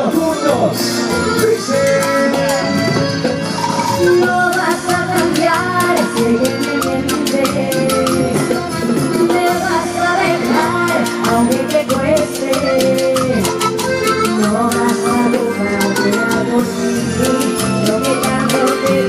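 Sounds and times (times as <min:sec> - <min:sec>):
cumbia band playing live: 0:00.0 - 0:19.0
steady percussion beat: 0:00.1 - 0:19.0
person singing: 0:01.3 - 0:19.0.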